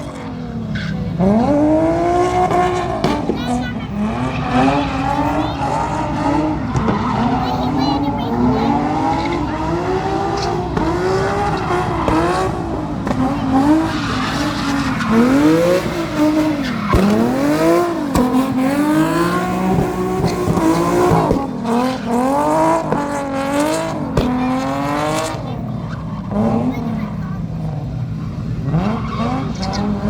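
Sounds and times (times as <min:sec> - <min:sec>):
car engine revving: 0:00.0 - 0:30.0
tyres squealing: 0:00.0 - 0:30.0.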